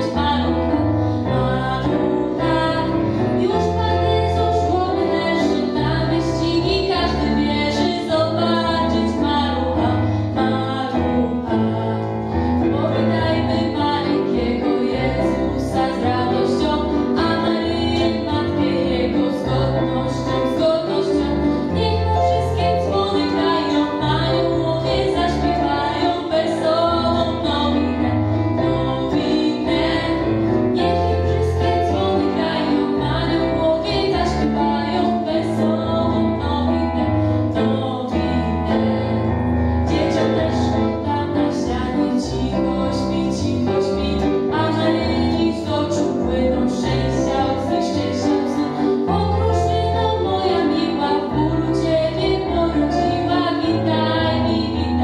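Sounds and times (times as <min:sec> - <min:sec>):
instrumental accompaniment with bass: 0:00.0 - 0:55.0.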